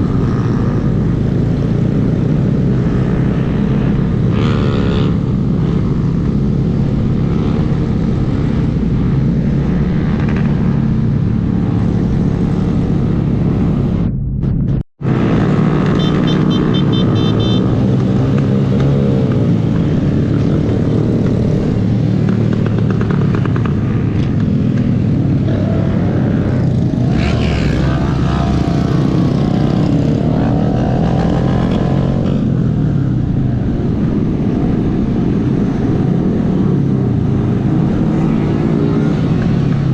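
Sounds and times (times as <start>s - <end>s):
motorcycle engine revving: 0.0s - 14.2s, 15.0s - 39.9s.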